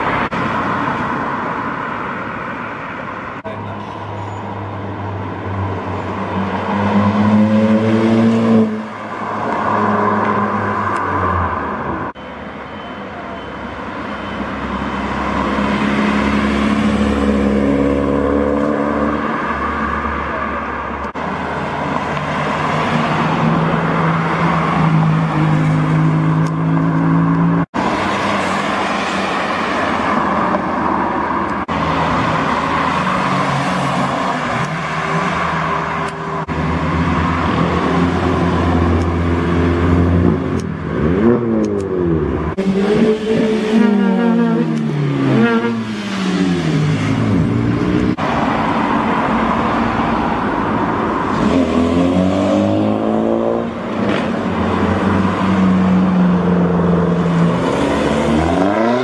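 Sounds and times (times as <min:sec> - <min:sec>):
tyre and road noise: 0:00.0 - 0:59.0
car engines revving: 0:04.5 - 0:12.2, 0:13.8 - 0:59.0.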